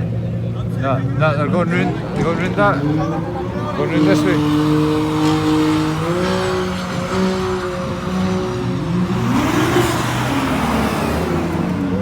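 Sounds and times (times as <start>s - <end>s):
engines idling: 0.0s - 12.0s
car engine revving past: 1.5s - 12.0s.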